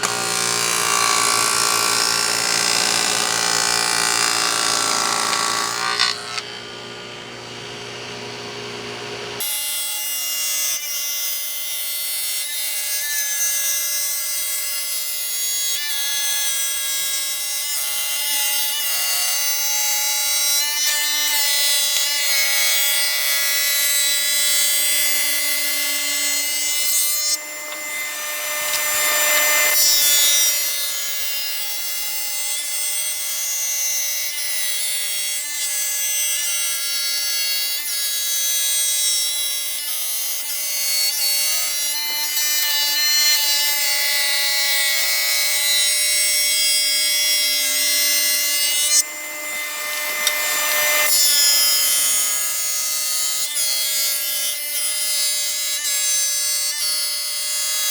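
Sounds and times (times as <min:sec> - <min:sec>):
saw cutting wood: 0:00.0 - 0:57.9
table saw whining: 0:00.0 - 0:57.9.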